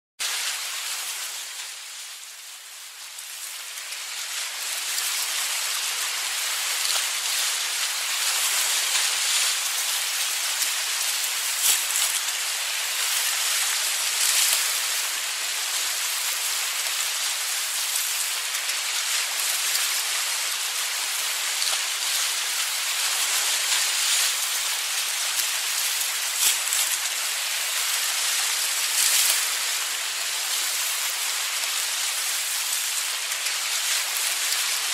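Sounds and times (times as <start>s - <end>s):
ocean waves washing onto beach: 0.2s - 34.9s
wave splashes: 3.2s - 34.9s.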